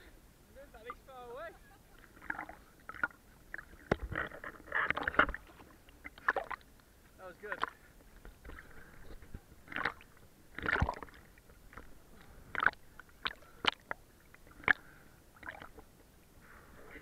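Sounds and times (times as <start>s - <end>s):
small waves splashing: 0.5s - 17.0s.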